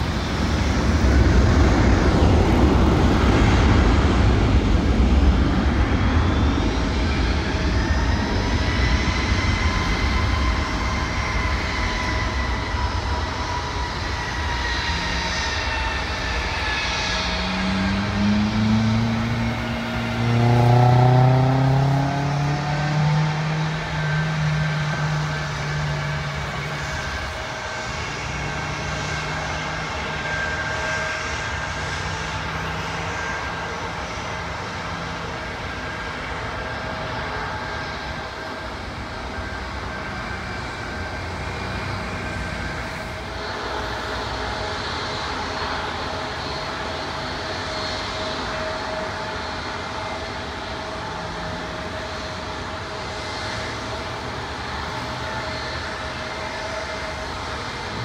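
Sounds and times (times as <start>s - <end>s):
highway traffic rushing: 0.0s - 10.4s, 12.4s - 58.0s
jet engines whining: 0.0s - 58.0s.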